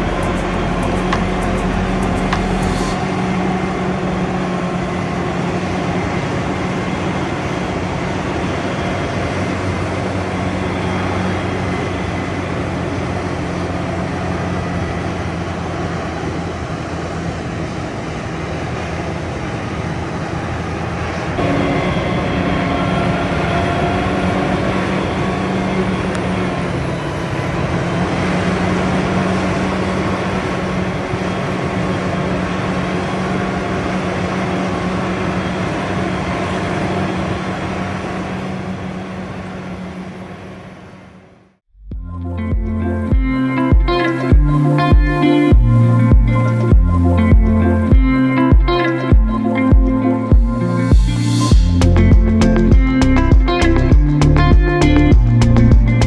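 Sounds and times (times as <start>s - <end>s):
diesel farm machinery engine drone: 0.0s - 56.0s.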